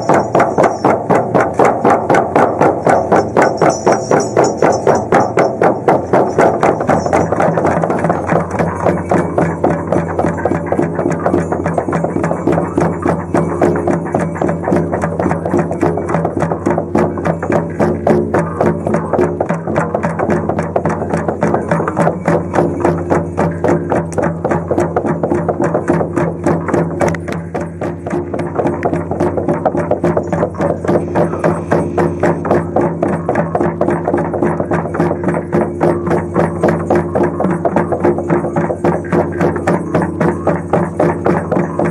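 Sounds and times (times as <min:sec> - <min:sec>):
frame drums beaten: 0:00.0 - 0:41.9.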